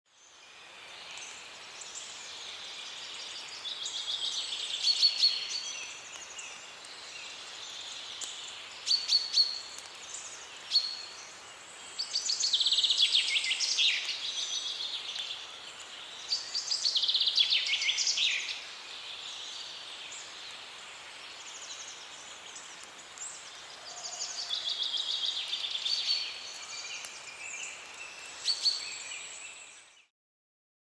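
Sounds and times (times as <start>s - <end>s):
songbirds singing: 0.1s - 30.1s
steady outdoor hiss: 0.1s - 30.1s.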